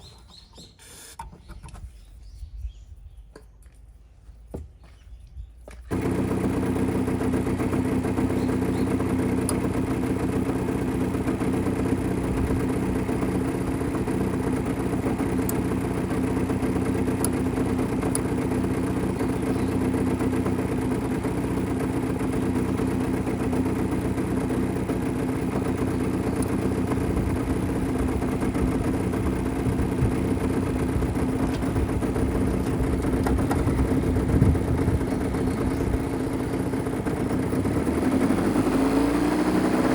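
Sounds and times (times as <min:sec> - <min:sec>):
two-stroke engine idling: 0:05.6 - 0:39.9.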